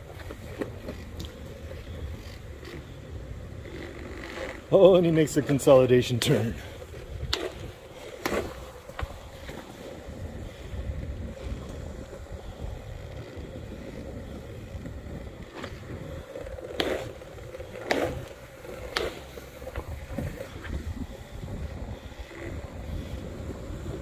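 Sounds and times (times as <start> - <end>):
skateboard wheels rolling on concrete: 0.0 - 24.0.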